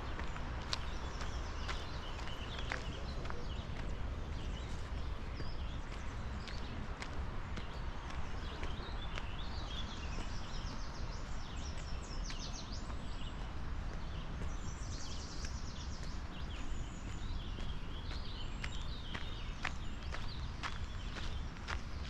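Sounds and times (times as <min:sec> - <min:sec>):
footsteps on path: 0:00.0 - 0:22.0
songbirds chirping and trilling: 0:00.0 - 0:22.0
steady low rumble: 0:00.0 - 0:22.0.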